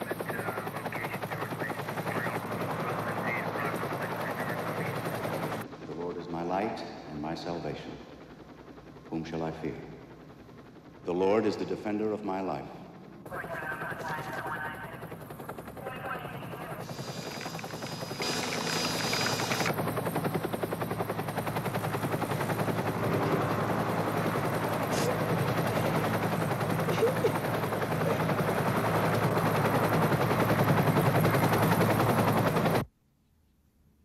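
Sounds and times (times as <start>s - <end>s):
helicopter rotor chopping: 0.0s - 32.8s.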